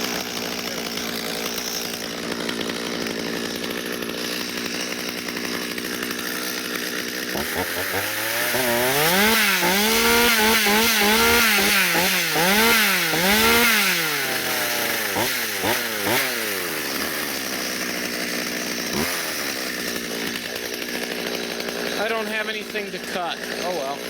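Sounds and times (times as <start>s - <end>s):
chainsaw idling: 0.0s - 24.0s
chainsaw revving: 0.0s - 24.0s.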